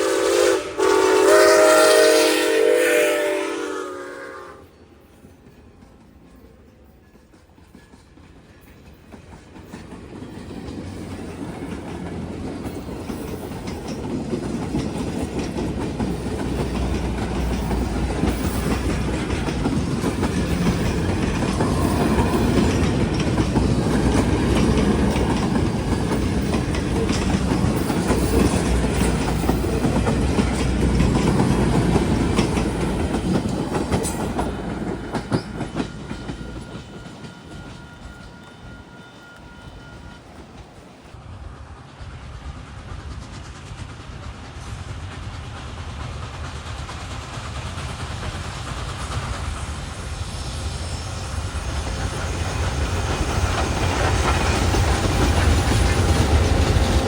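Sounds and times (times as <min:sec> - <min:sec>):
train wheels clicking and rumbling: 0:00.0 - 0:57.0.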